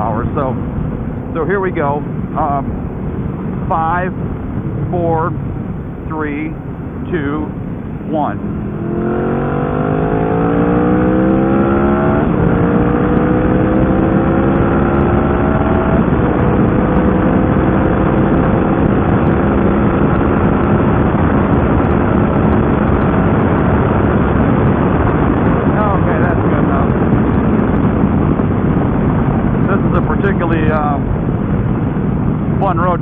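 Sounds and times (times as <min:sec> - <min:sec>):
motorcycle engine accelerating: 0:00.0 - 0:33.0
wind noise: 0:00.0 - 0:33.0.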